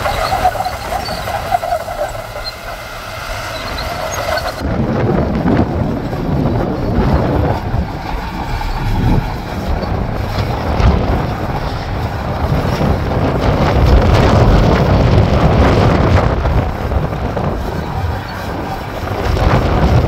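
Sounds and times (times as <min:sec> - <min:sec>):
heavy diesel machine running: 0:00.0 - 0:20.0
wind buffeting microphone: 0:00.0 - 0:20.0.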